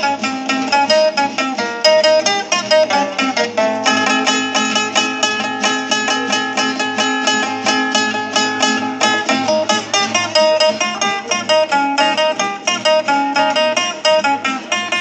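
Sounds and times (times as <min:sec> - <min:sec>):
plucked string dance music: 0:00.0 - 0:15.0.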